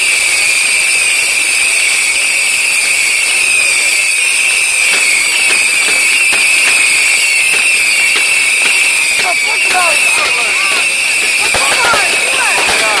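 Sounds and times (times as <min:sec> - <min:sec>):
fireworks hissing with whistle: 0:00.0 - 0:13.0.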